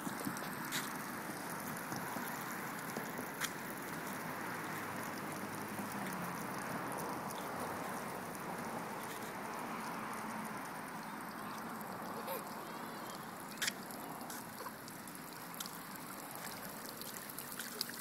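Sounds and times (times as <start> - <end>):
water spray hissing on concrete: 0.0 - 18.0.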